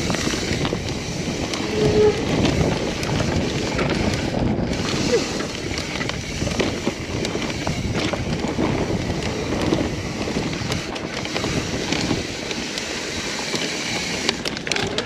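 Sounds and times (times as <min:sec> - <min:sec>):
bike knocks and clicks: 0:00.0 - 0:15.0
bike tyre noise: 0:00.0 - 0:15.0
wind rushing over microphone: 0:00.0 - 0:15.0.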